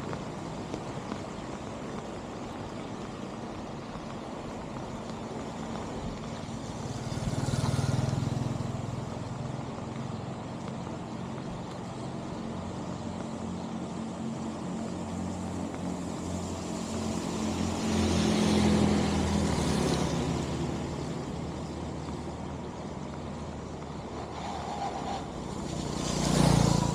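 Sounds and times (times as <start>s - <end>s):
road vehicles passing: 0.0s - 26.9s.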